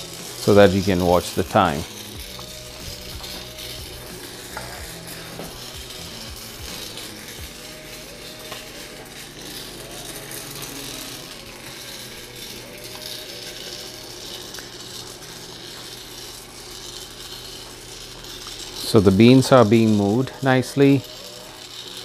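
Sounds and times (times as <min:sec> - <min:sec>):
coffee beans rattling in pan: 0:00.0 - 0:22.0
roaster motor hum: 0:00.0 - 0:22.0.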